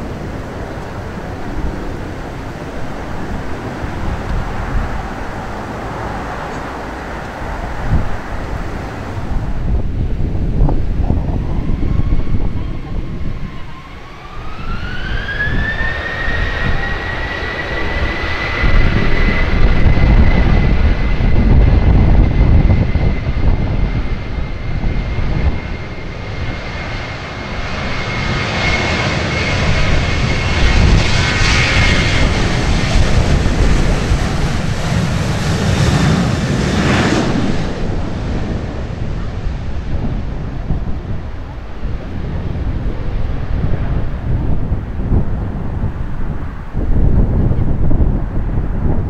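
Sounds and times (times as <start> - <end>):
jet engines spooling up: 0.0 - 49.0
wind buffeting microphone: 0.0 - 49.0.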